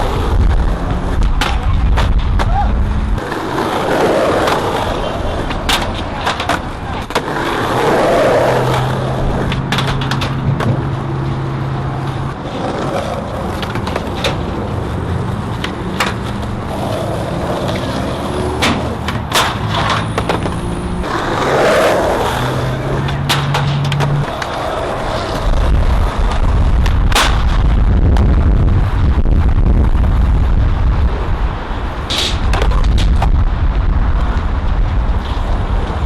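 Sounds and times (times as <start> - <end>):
skateboard clacks: 0.0 - 28.5, 32.0 - 36.0
skateboard wheels rolling: 0.0 - 36.0.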